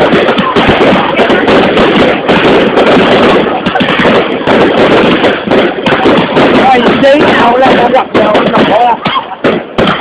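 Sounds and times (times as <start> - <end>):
crowd voices: 0.0 - 10.0
fireworks bangs and crackles: 0.0 - 10.0.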